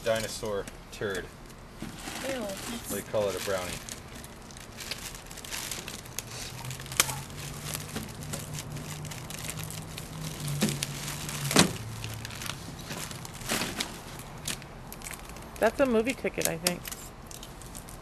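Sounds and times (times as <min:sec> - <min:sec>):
low steady hum: 0:00.0 - 0:18.0
plastic wrapping crinkling: 0:02.0 - 0:18.0.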